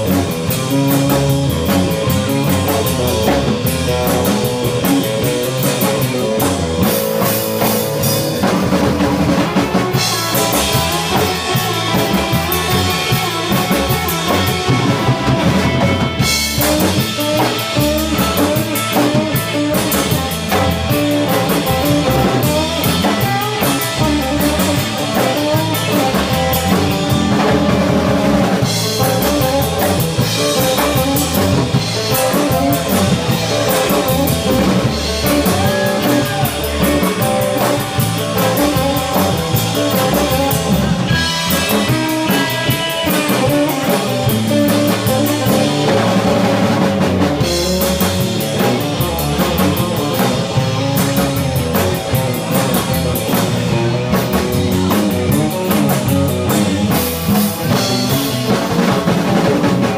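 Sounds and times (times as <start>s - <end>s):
drum kit: 0.0s - 59.9s
electric guitars playing: 0.0s - 59.9s.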